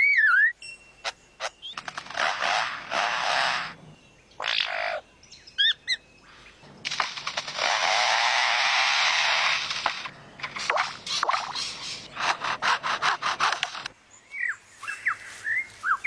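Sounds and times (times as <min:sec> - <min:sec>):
bird harsh rasping calls: 0:00.0 - 0:16.0.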